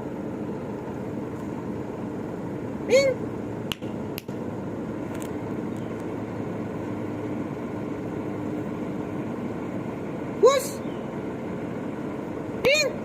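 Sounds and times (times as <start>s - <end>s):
engine noise: 0.0s - 13.0s
faint constant hum: 0.0s - 13.0s.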